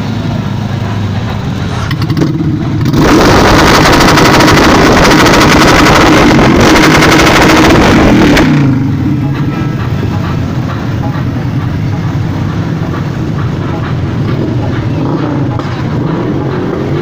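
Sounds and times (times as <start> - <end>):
motorcycle engine revving: 0.0 - 10.7, 12.6 - 17.0
low rumble of engines: 0.0 - 17.0.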